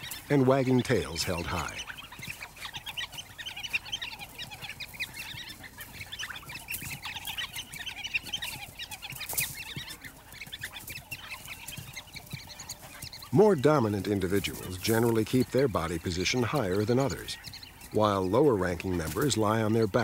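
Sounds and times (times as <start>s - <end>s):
wild dogs twittering chirps: 0.0s - 20.0s.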